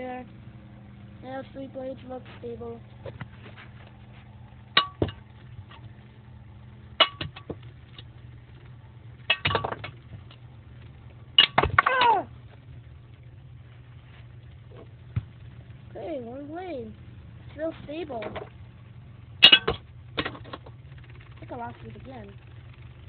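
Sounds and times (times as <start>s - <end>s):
fan motor humming: 0.0s - 23.0s.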